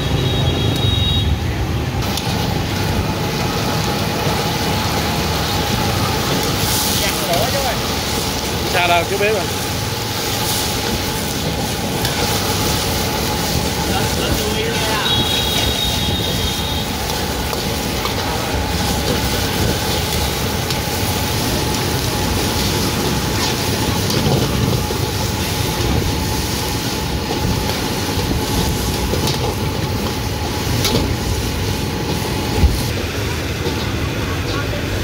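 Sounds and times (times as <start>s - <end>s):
gas burner rushing: 0.0s - 35.0s
food sizzling: 1.9s - 35.0s.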